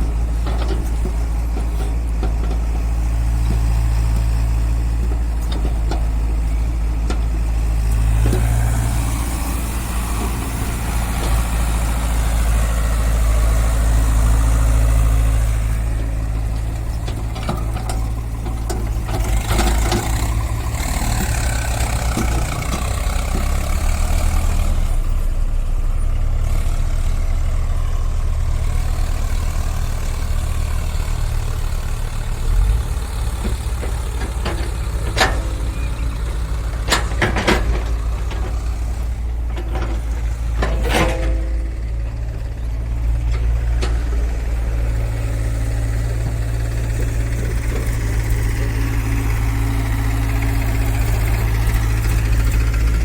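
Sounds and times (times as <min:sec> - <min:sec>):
heavy diesel engine drone: 0:00.0 - 0:53.0.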